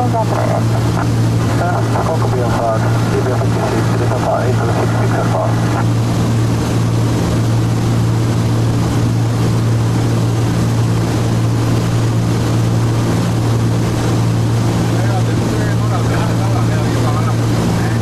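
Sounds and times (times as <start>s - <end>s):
propeller plane cabin drone: 0.0s - 18.0s.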